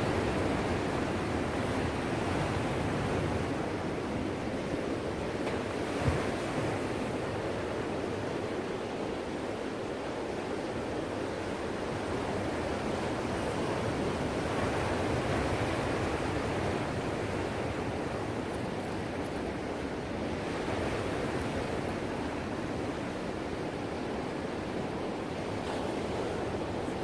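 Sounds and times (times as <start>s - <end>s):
ocean waves breaking: 0.0s - 27.0s.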